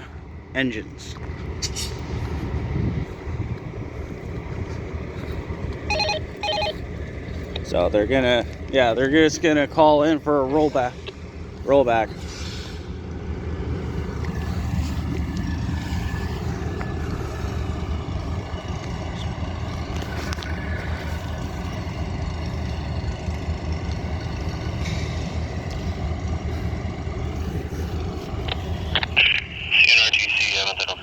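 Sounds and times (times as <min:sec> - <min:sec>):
diesel locomotives idling: 0:00.0 - 0:31.0.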